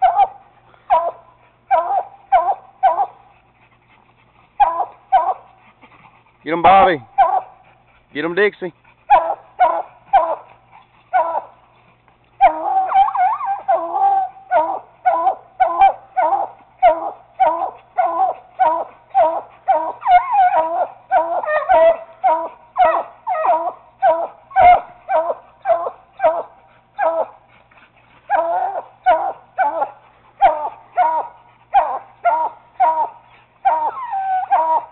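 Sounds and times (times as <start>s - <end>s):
hounds barking: 0.0s - 3.5s, 4.6s - 5.9s, 6.5s - 11.7s, 12.4s - 34.9s.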